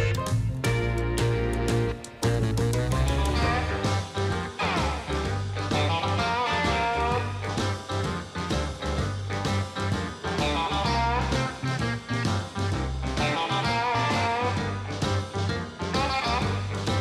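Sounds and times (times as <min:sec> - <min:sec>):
swing music with electric guitar: 0:00.0 - 0:17.0.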